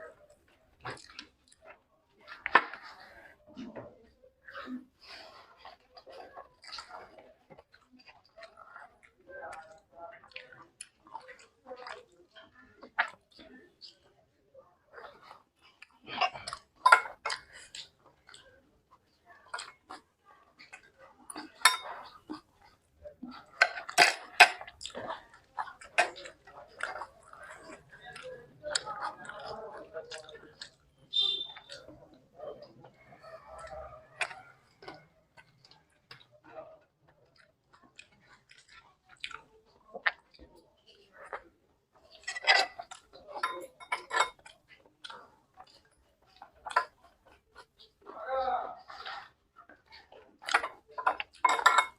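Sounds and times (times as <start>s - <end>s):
person chewing food: 0.0s - 48.2s, 48.8s - 51.9s.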